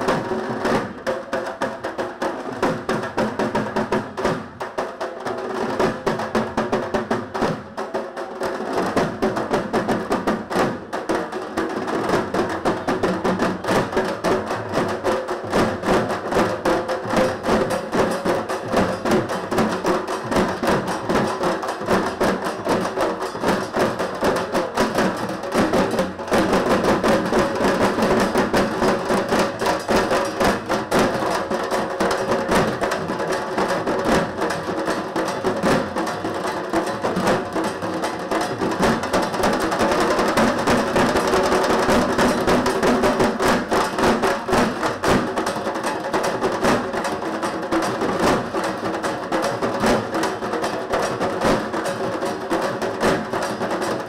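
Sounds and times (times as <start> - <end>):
barrel drums beaten with sticks: 0.0 - 54.0.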